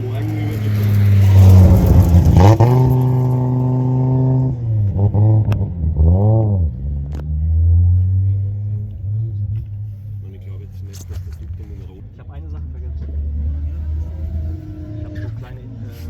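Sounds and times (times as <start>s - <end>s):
exhaust pops: 0.0s - 16.0s
race car engine revving: 0.0s - 16.0s.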